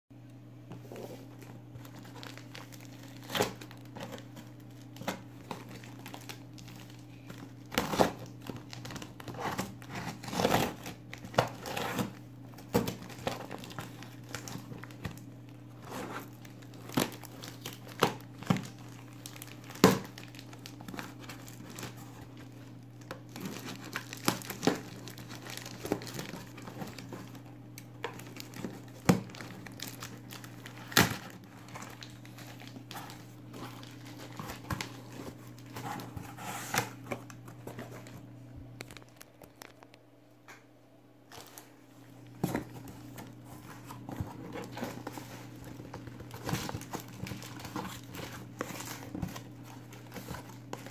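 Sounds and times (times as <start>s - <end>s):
plastic wrap crinkling: 0.7s - 40.1s, 41.2s - 50.9s.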